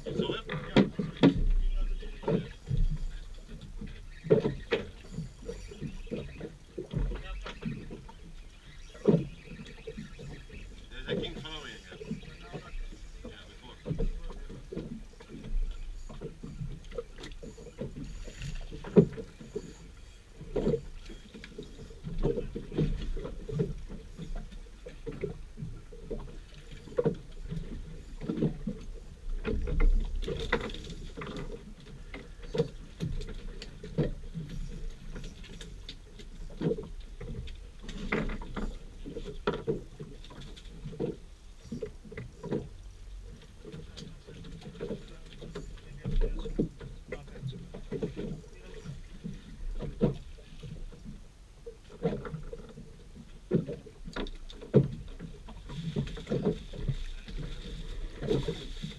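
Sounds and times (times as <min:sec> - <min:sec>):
water slapping against hull: 0:00.0 - 0:58.9.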